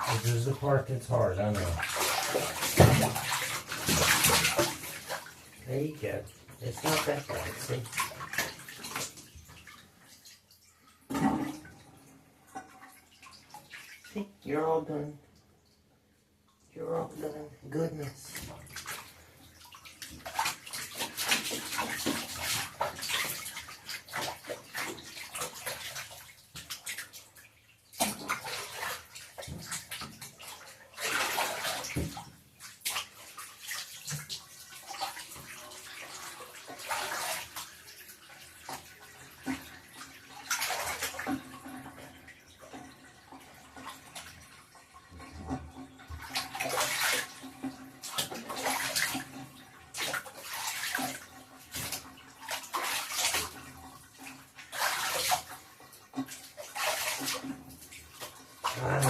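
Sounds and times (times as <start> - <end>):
water splashing in bathtub: 0.0 - 59.0.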